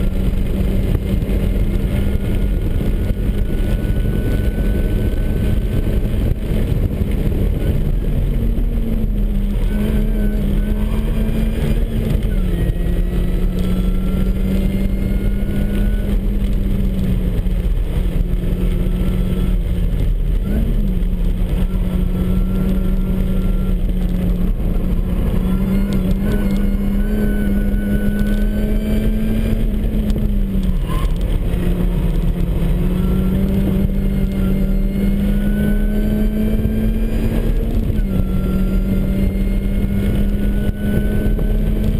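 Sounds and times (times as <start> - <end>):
car engine running hard: 0.0 - 41.9
road and wind noise: 0.0 - 41.9.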